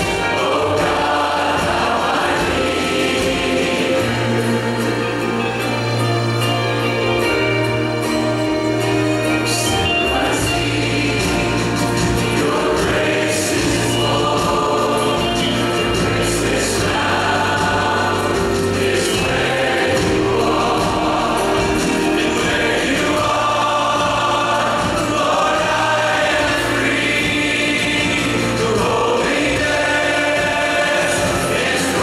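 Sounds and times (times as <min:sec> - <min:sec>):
men's choir singing: 0:00.0 - 0:07.2, 0:08.0 - 0:32.0
band with guitar and keyboards: 0:00.0 - 0:32.0.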